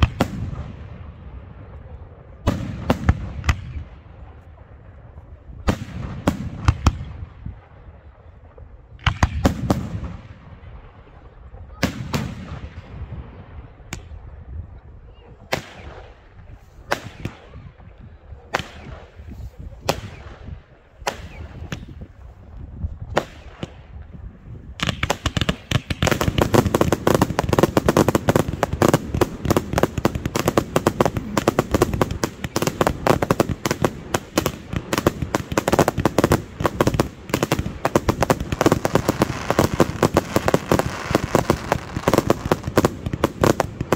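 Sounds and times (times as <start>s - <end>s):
fireworks bangs: 0.0s - 4.9s, 5.6s - 7.6s, 8.4s - 14.3s, 15.4s - 43.9s
rapid crackle of fireworks: 0.0s - 14.4s, 15.3s - 43.9s.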